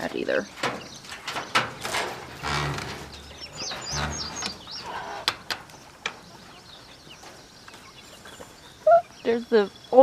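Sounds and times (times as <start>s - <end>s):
birds chirping: 0.0s - 10.0s
farm poultry: 0.0s - 10.0s.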